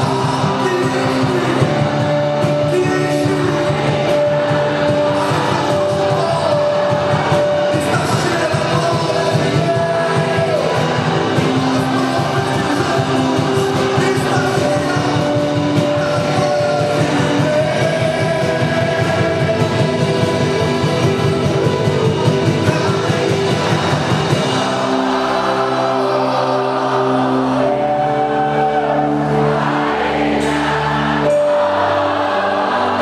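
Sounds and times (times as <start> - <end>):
person singing lead vocal: 0.0 - 33.0
rock band playing: 0.0 - 33.0.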